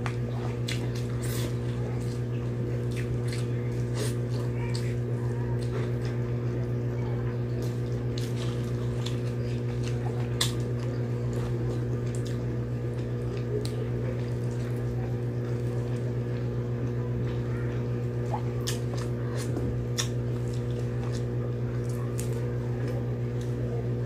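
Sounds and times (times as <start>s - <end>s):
closed-mouth chewing: 0.0s - 24.0s
steady low hum: 0.0s - 24.0s.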